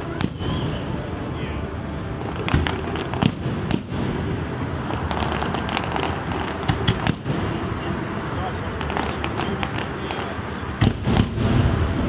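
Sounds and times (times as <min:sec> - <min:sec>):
fireworks bangs: 0:00.0 - 0:12.0
fireworks crackling: 0:00.0 - 0:12.0
low rumble: 0:00.0 - 0:12.0.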